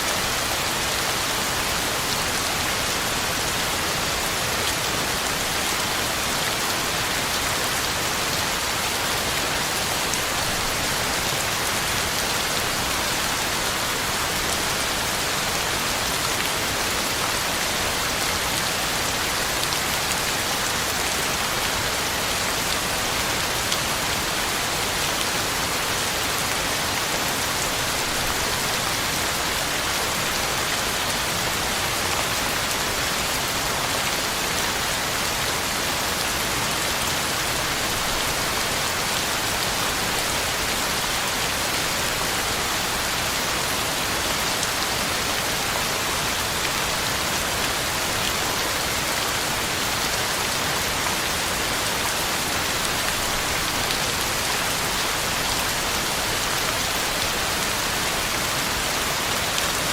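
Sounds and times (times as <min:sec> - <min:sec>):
heavy rain on ground and leaves: 0:00.0 - 0:59.9.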